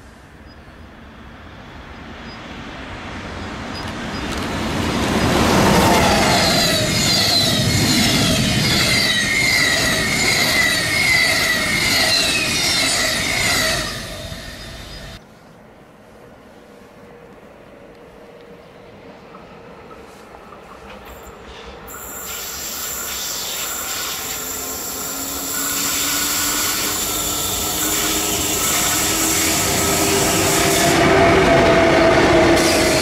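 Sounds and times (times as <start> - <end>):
train passing at speed: 0.0 - 33.0.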